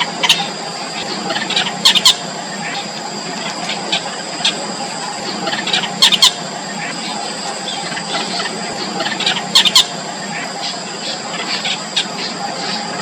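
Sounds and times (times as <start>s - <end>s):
birds squeaky calls: 0.0s - 13.0s
high-pitched background hum: 0.0s - 13.0s.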